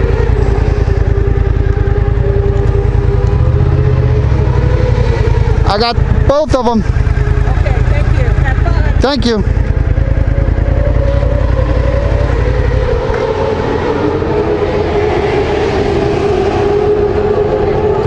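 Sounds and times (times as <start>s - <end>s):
motorcycle engine pulling away: 0.0s - 18.0s.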